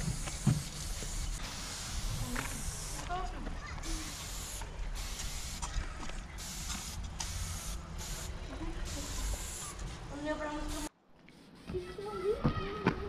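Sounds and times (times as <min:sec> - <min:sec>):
spray paint can hissing: 0:00.0 - 0:12.4.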